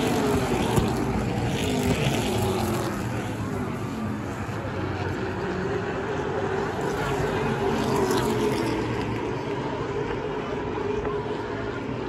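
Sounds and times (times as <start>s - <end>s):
race car engines passing by: 0.0s - 12.0s.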